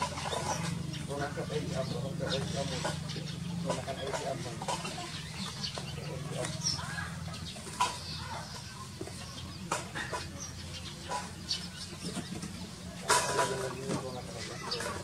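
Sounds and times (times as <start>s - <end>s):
chicken clucking: 0.0s - 15.0s.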